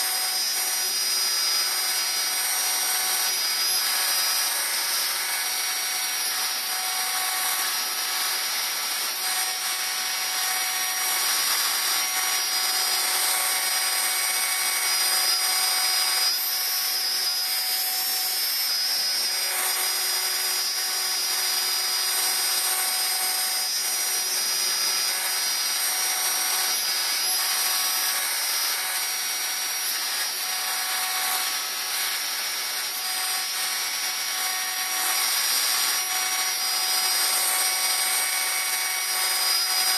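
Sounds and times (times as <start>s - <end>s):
bit cutting wood: 0.0s - 39.9s
router spindle whine: 0.0s - 39.9s.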